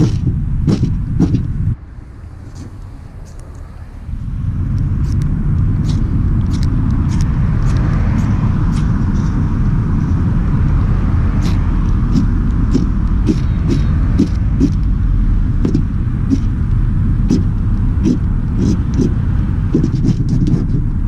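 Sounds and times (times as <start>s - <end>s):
heavy low rumble: 0.0s - 21.0s.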